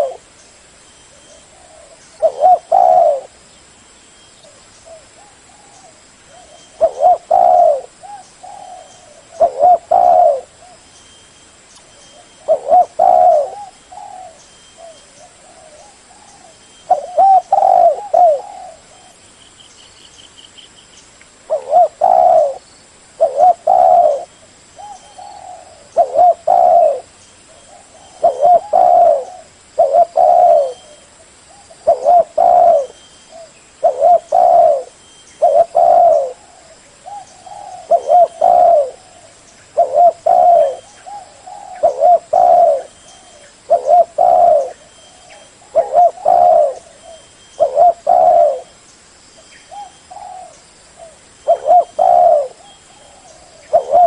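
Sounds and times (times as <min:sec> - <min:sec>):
dove cooing: 0:00.0 - 0:00.3, 0:01.2 - 0:03.4, 0:04.5 - 0:10.8, 0:12.1 - 0:19.2, 0:21.5 - 0:22.6, 0:23.2 - 0:48.8, 0:49.7 - 0:54.0.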